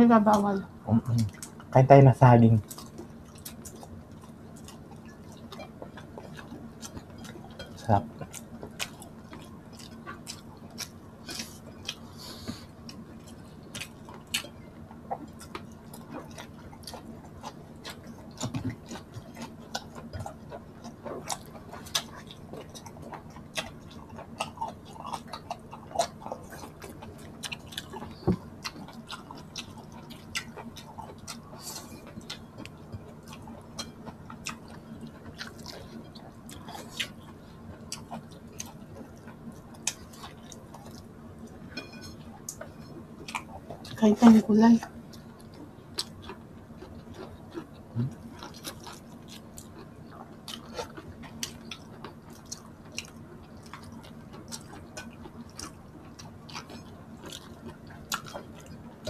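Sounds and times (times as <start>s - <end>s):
steady low hum: 0.0s - 59.0s
person chewing food: 2.5s - 44.0s, 44.8s - 59.0s.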